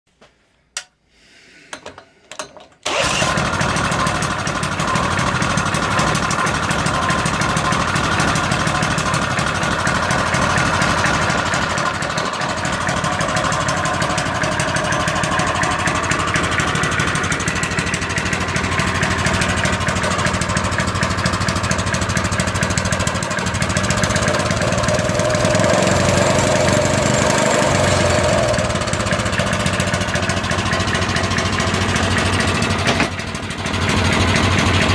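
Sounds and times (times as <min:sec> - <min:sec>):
small engine starting and running: 0:02.8 - 0:34.9.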